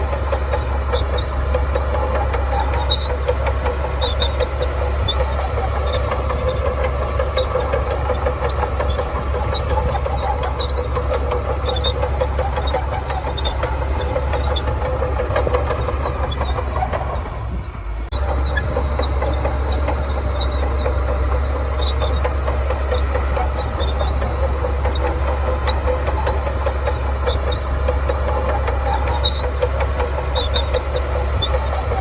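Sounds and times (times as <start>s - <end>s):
diesel engine running: 0.0s - 32.0s
rapid metallic rattle: 0.0s - 32.0s.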